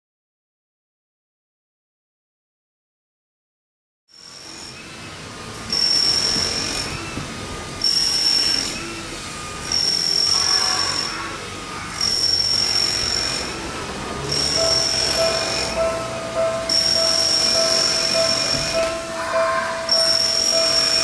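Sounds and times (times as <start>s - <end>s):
high mechanical whine: 4.1s - 21.0s
level crossing warning alarm: 4.1s - 21.0s.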